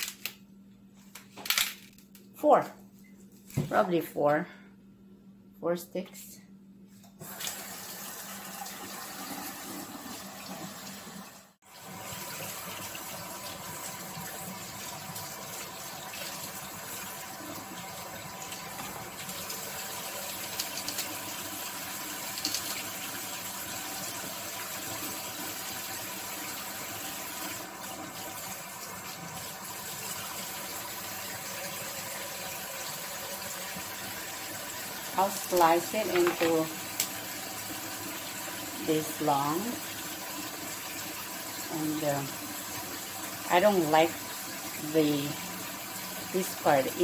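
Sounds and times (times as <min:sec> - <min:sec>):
faucet running over vegetables: 0:07.2 - 0:47.0.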